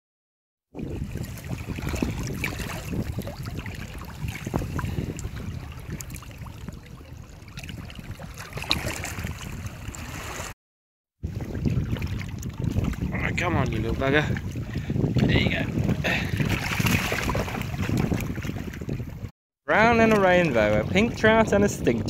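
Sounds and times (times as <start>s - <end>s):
water lapping and splashing: 0.7s - 10.6s, 11.2s - 22.0s
wind rumbling on microphone: 0.7s - 10.6s, 11.2s - 22.0s.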